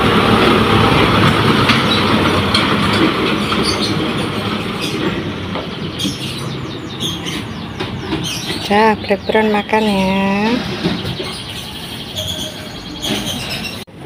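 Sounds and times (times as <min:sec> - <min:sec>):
truck driving past: 0:00.0 - 0:14.0.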